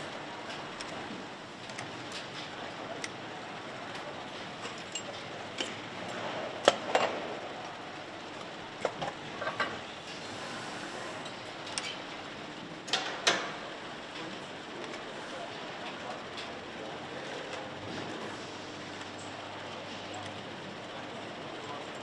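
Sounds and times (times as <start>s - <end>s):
factory floor noise: 0.0s - 22.0s.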